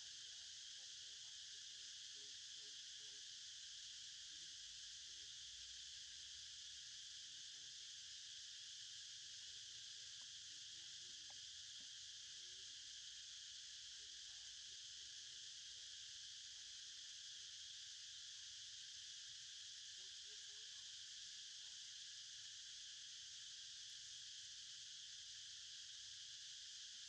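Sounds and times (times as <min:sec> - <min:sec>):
insect chorus buzzing: 0:00.0 - 0:27.0.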